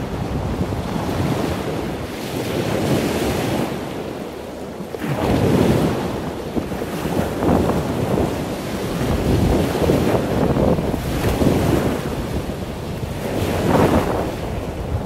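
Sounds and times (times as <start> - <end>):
wind blowing over microphone: 0.0 - 15.0.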